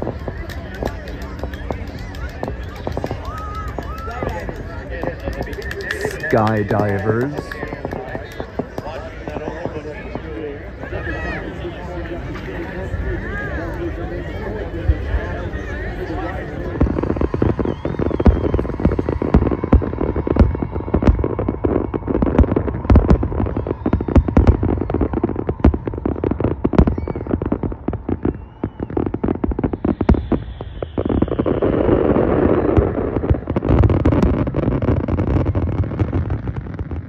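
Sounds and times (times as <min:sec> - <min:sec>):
fireworks cracks and bangs: 0:00.0 - 0:37.0
rumbling wash of noise: 0:00.0 - 0:37.0.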